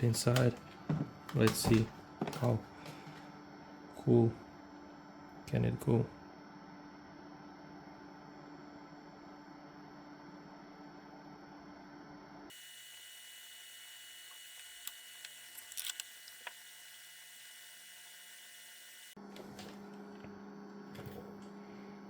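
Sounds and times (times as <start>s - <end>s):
cooling fan hum: 0.0s - 22.0s.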